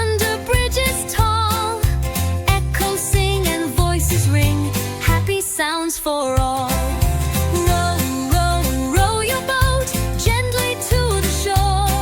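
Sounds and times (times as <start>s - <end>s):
bouncing bass beat: 0.0s - 5.3s, 6.4s - 12.0s
bright backing track: 0.0s - 12.0s
person singing with vibrato: 0.0s - 12.0s.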